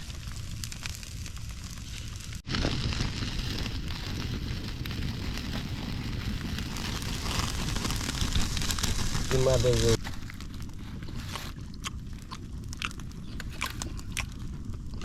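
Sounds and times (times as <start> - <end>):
cooking fire crackling: 0.0 - 15.0.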